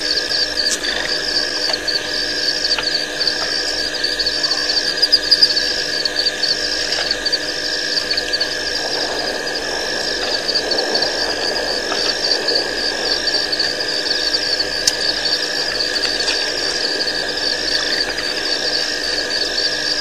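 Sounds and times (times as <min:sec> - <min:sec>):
steady low drone: 0:00.0 - 0:20.0.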